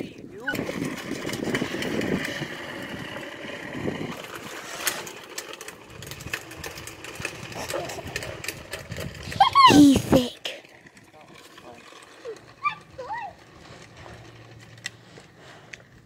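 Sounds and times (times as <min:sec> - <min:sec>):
toy truck wheels rolling on concrete: 0:00.0 - 0:16.0.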